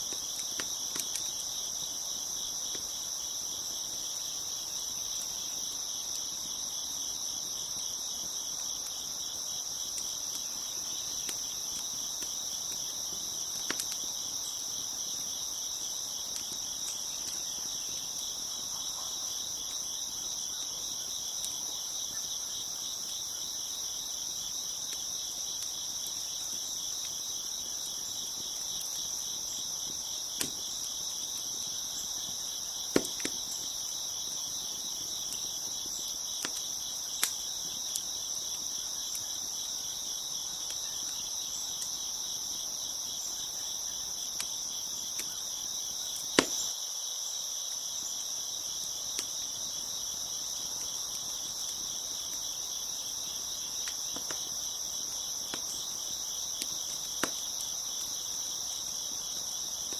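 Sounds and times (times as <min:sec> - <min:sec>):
wood fire crackling and popping: 0:00.0 - 0:42.7, 0:44.0 - 0:46.7, 0:48.6 - 0:59.9
crickets chirping: 0:00.0 - 0:59.9.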